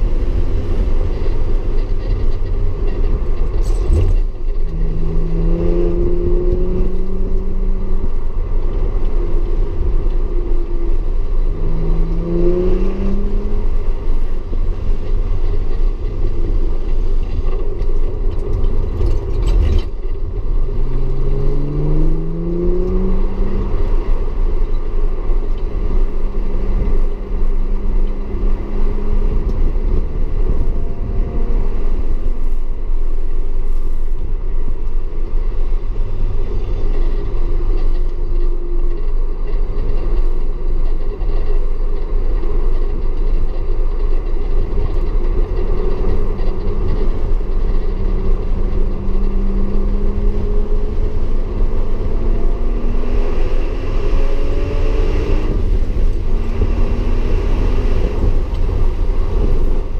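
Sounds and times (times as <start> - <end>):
car engine pulling hard: 0.0 - 59.9
road and wind rumble: 0.0 - 59.9.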